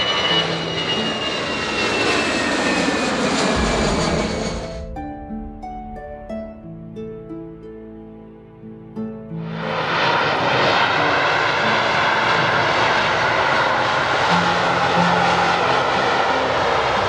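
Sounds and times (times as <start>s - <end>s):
aircraft engines running: 0.0s - 17.0s.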